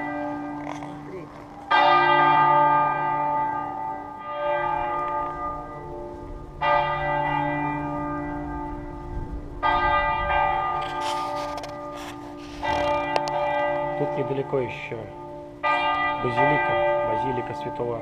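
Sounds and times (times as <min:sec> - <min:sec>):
church bell tolling: 0:00.0 - 0:18.0.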